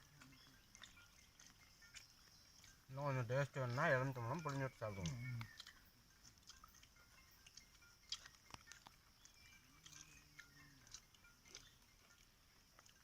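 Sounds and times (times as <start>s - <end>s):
faint chewing and biting: 0.0s - 13.0s.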